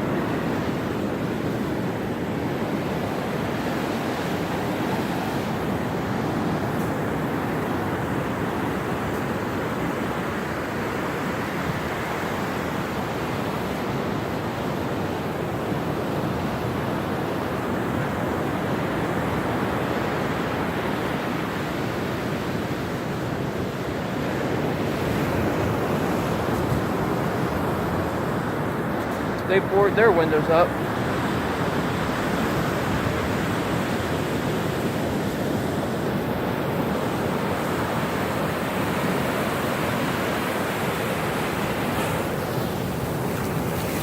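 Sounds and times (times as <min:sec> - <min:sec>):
surf breaking on beach: 0:00.0 - 0:44.0.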